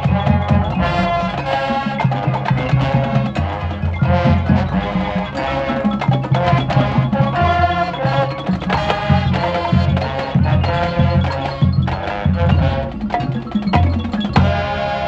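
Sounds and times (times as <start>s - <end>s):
marching band wind instruments: 0.0s - 15.0s.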